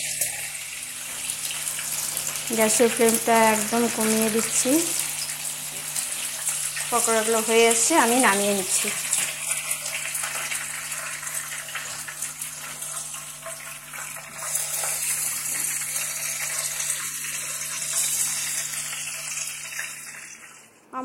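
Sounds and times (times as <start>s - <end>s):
food sizzling in hot oil: 0.0s - 20.7s.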